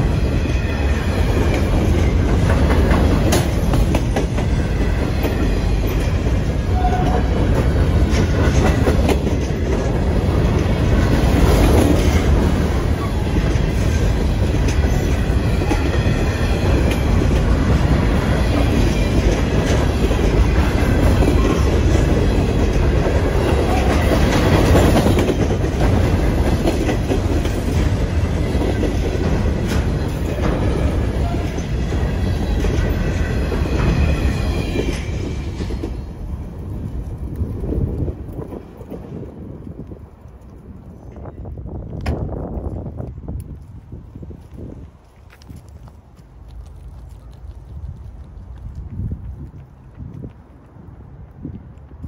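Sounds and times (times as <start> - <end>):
clickety-clack over rail joints: 0.0 - 52.0
steel wheels rumbling on rail: 0.0 - 52.0.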